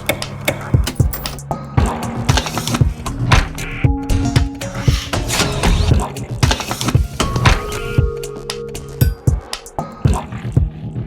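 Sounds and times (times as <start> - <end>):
percussive beat: 0.0 - 10.9.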